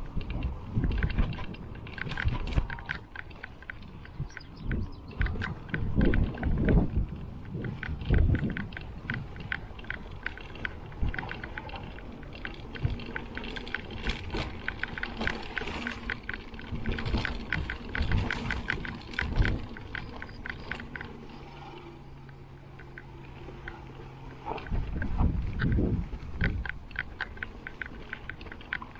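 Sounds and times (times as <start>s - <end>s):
bike tyres rolling over dirt: 0.0s - 28.9s
fast ticking from bike: 0.0s - 28.9s
low steady hum: 0.0s - 28.9s.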